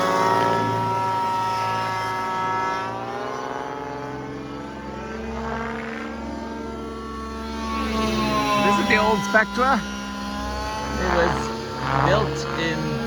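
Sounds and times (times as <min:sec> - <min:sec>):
rc helicopter engine: 0:00.0 - 0:13.0.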